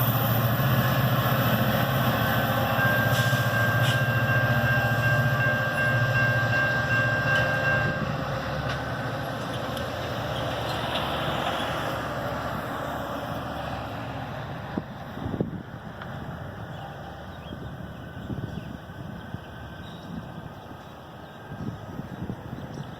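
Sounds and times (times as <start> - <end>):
diesel train rumble: 0.0 - 22.9
train wheels rolling: 0.0 - 22.9.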